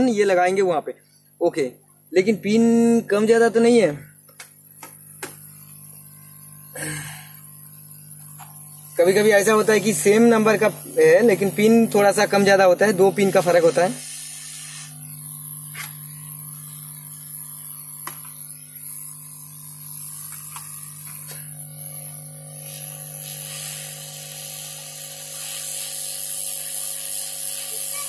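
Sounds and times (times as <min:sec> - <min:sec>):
hot air blower hissing: 0:04.8 - 0:28.0.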